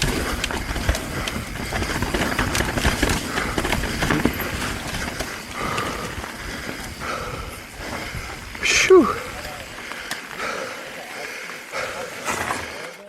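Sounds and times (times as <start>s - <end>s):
bike chain and frame rattling: 0.0s - 13.0s.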